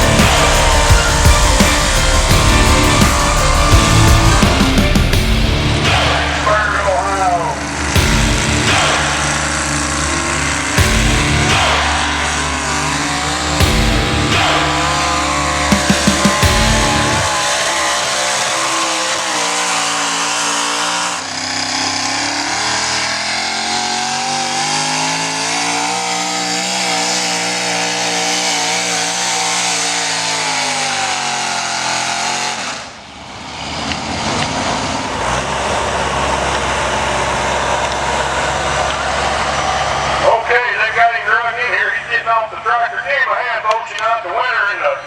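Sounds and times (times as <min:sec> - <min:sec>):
engine running at full throttle: 0:00.0 - 0:41.4
rough noisy engine: 0:00.0 - 0:44.6.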